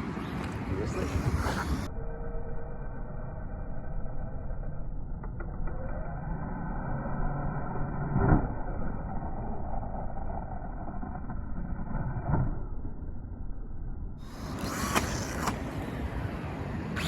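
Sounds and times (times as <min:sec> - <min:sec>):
rc truck driving: 0:00.0 - 0:13.5, 0:14.2 - 0:17.0.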